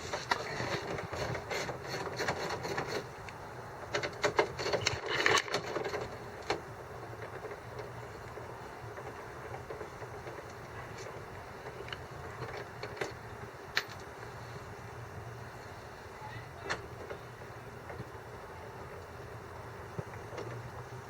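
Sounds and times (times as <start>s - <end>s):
faint background noise: 0.0s - 21.0s.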